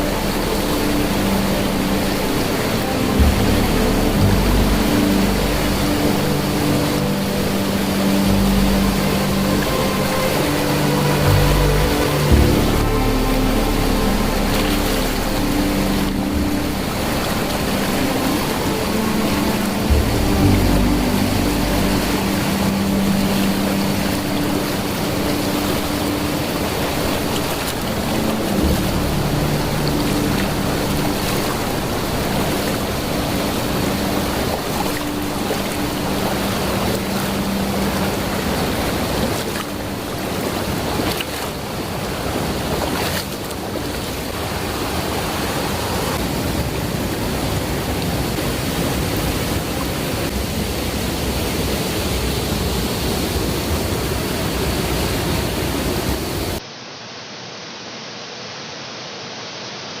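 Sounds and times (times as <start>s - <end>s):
waterfall roaring: 0.0s - 60.0s.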